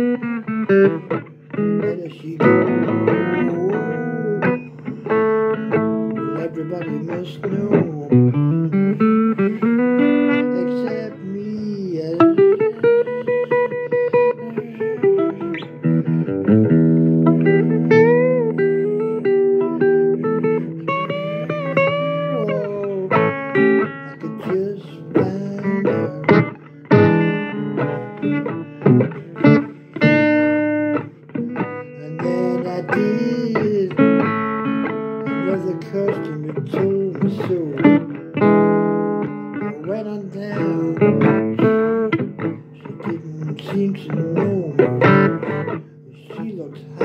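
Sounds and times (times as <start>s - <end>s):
blues guitar playing: 0.0s - 47.0s
person singing: 0.0s - 47.0s.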